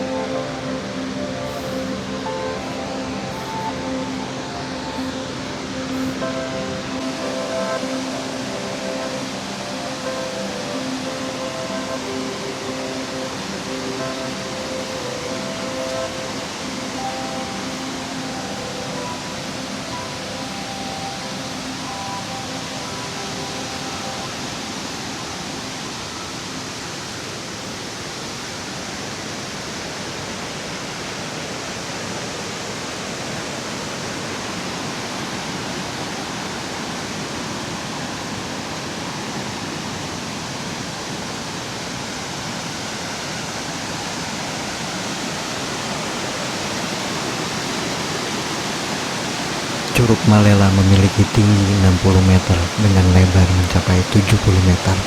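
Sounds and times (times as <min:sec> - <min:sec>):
waterfall roaring: 0:00.0 - 0:32.2, 0:32.8 - 0:55.0.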